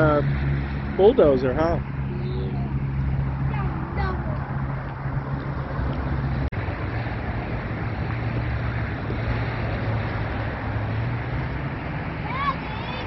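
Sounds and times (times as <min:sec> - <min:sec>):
steady low rumble: 0:00.0 - 0:11.9
wind on microphone: 0:00.0 - 0:12.8.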